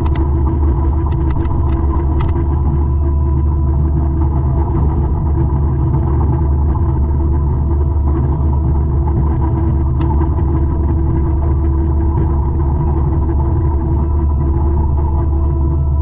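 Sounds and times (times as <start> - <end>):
forestry mulcher droning: 0.0 - 16.0.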